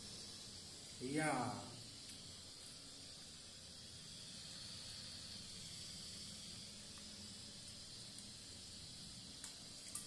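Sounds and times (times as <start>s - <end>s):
kernels hissing in hot oil: 0.0s - 10.0s.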